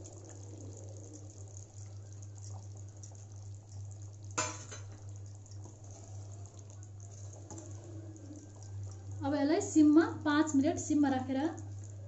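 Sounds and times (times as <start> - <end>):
gravy simmering with fizz: 0.0 - 12.0
steady low hum: 0.0 - 12.0.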